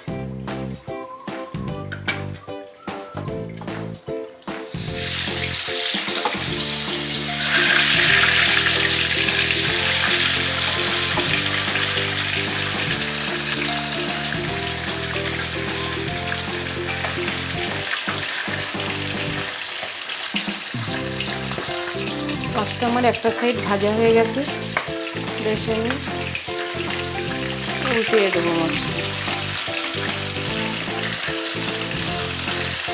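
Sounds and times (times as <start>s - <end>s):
background music: 0.0s - 19.8s, 20.8s - 32.9s
fish sizzling in hot oil: 0.1s - 32.9s.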